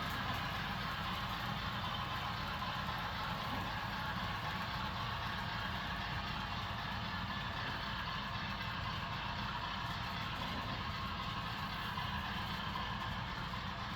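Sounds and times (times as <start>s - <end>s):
model train rumble and hum: 0.0s - 13.9s.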